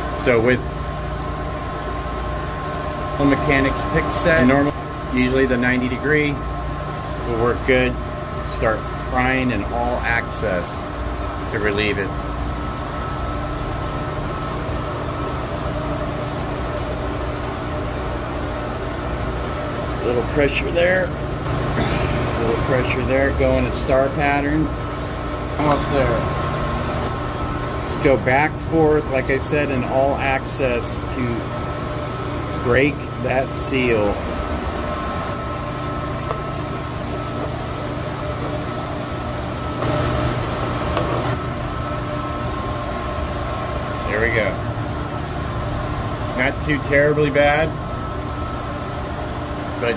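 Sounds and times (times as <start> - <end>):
machinery humming: 0.0 - 49.9.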